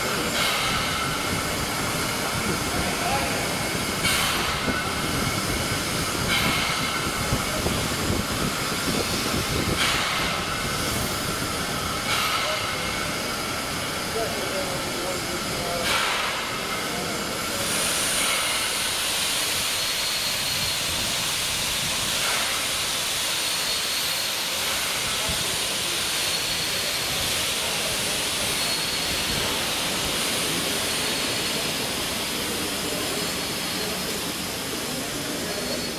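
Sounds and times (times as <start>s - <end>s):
steam hissing from locomotive: 0.0s - 35.9s.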